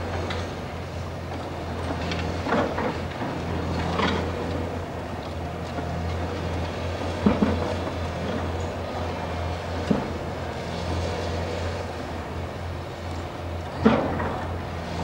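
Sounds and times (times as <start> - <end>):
excavator diesel drone: 0.0 - 15.0.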